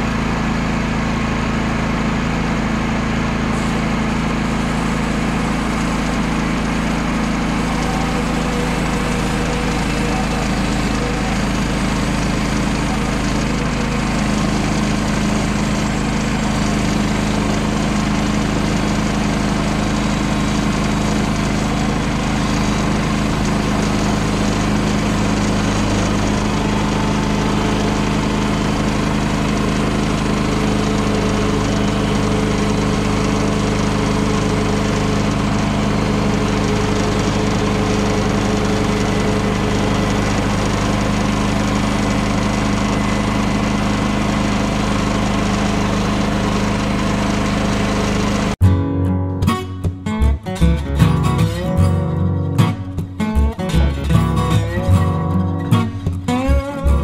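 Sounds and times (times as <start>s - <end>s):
small gasoline engine running: 0.0s - 48.8s, 49.4s - 57.0s.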